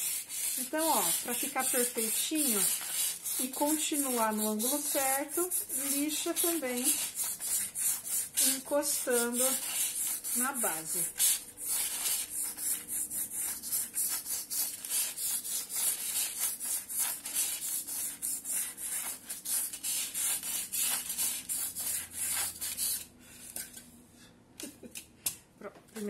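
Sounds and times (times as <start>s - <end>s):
nail file sanding styrofoam: 0.0s - 23.1s.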